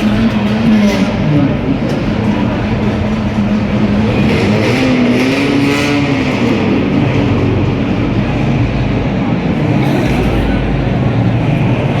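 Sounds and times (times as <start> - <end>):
noisy background: 0.0 - 12.0.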